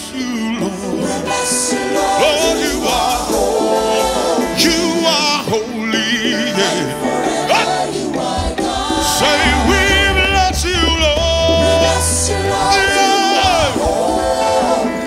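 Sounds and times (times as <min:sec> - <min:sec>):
gospel band playing: 0:00.0 - 0:15.0
people singing: 0:00.0 - 0:15.0.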